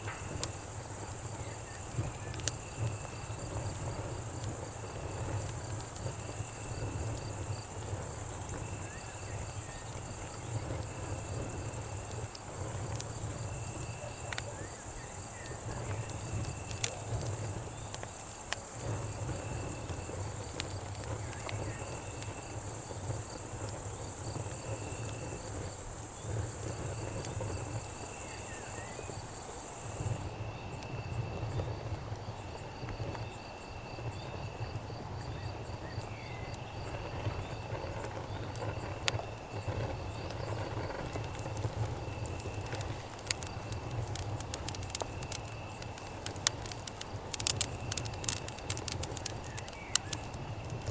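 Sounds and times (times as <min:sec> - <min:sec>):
campfire popping and crackling: 0:00.0 - 0:33.3, 0:34.1 - 0:50.9
cicadas droning: 0:00.0 - 0:50.9
crickets chirping: 0:00.0 - 0:50.9.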